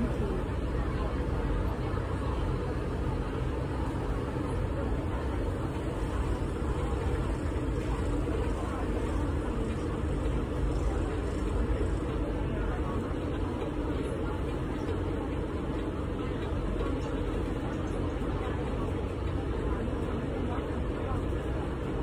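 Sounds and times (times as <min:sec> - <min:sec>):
ferry engine drone: 0:00.0 - 0:22.0.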